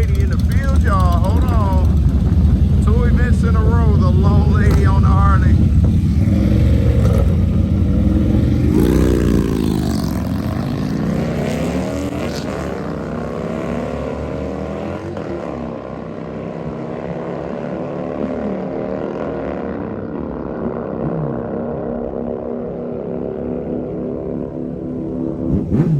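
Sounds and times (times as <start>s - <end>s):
motorcycles accelerating: 0.0s - 25.9s.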